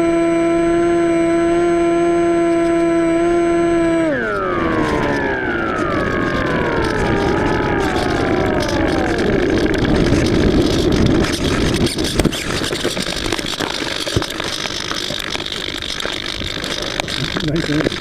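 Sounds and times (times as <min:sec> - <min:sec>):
electric motor whine winding down: 0:00.0 - 0:18.0.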